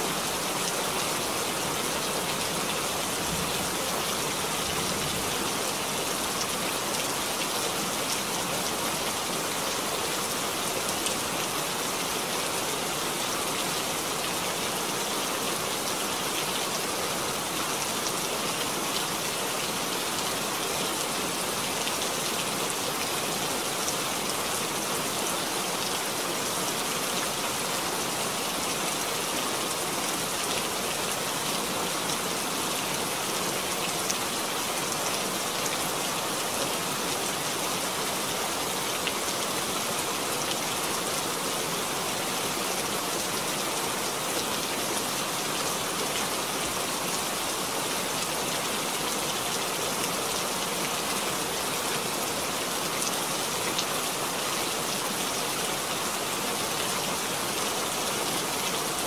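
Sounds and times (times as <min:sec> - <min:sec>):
rain falling into a puddle: 0:00.1 - 0:59.0.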